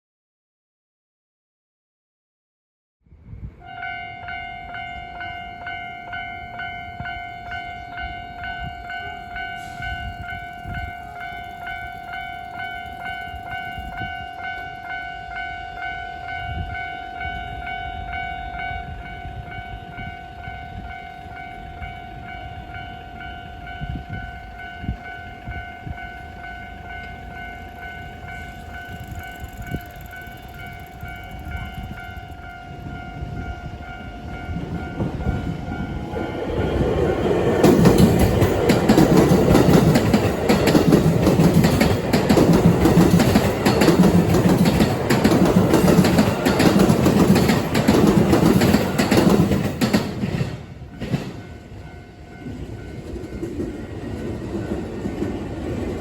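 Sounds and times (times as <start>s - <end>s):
level crossing warning bell: 3.6s - 56.0s.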